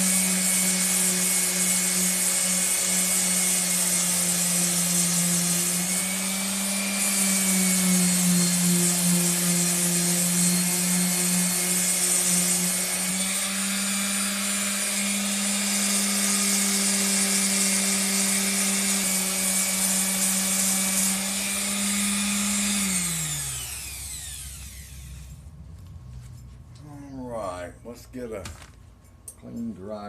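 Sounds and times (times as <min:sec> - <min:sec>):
electric sander motor hum: 0:00.0 - 0:25.4
sander abrading steel blade: 0:00.0 - 0:25.4.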